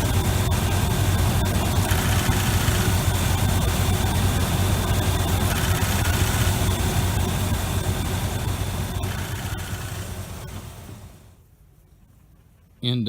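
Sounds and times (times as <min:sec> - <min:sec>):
truck engine idling: 0:00.0 - 0:11.3.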